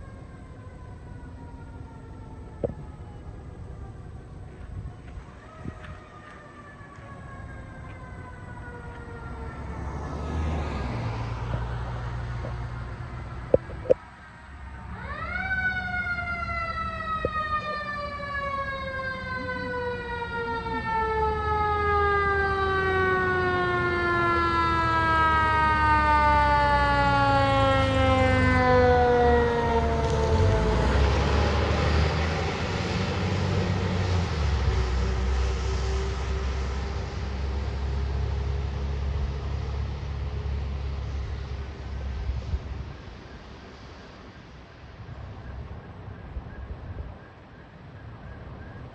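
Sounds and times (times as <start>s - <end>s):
fire engine siren: 0.0s - 48.9s
truck engine and road noise: 0.0s - 48.9s.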